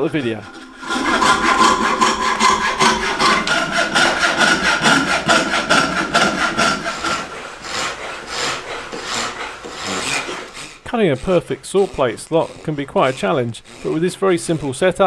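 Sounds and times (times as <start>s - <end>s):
hand saw cutting wood: 0.0s - 15.0s.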